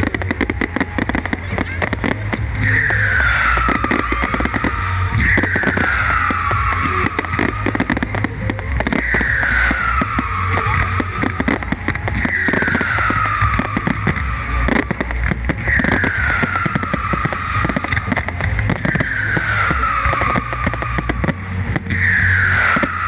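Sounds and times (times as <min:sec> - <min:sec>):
firework whistle falling in pitch: 0:00.0 - 0:23.0
fireworks crackling bangs: 0:00.0 - 0:23.0
low rumble: 0:00.0 - 0:23.0.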